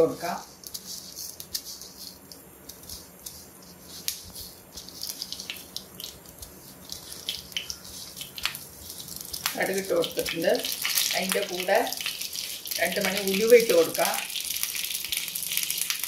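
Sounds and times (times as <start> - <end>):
seeds sizzling in hot oil: 0.0 - 16.0.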